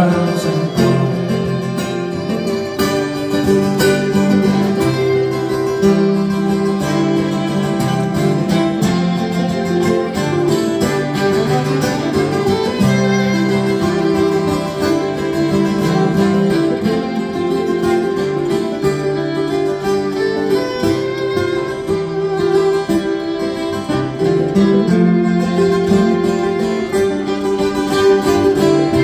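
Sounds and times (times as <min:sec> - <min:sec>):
fiddle: 0:00.0 - 0:29.0
strummed acoustic guitars: 0:00.0 - 0:29.0.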